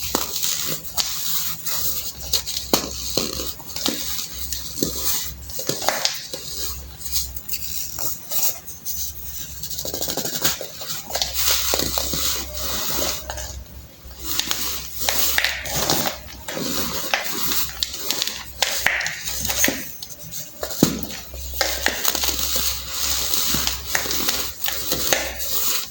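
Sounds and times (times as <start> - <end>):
baking soda crunching: 0.0 - 25.9.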